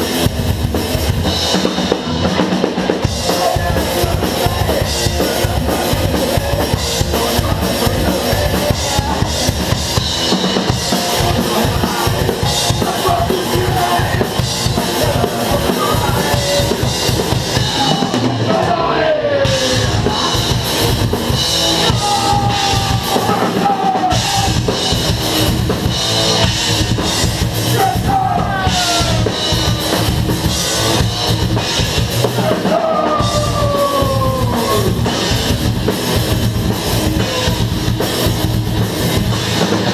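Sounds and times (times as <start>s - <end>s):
drum kit hammering: 0.0s - 18.8s, 19.4s - 39.9s.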